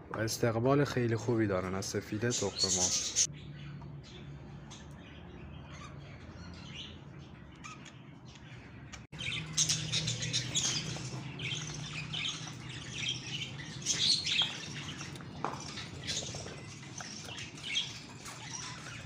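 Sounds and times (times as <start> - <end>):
budgerigars chattering and chirping: 2.0 - 19.0.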